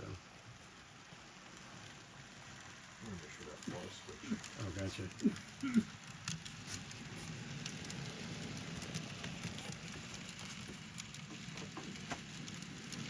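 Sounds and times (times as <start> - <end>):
model train rumbling: 0.0 - 13.0.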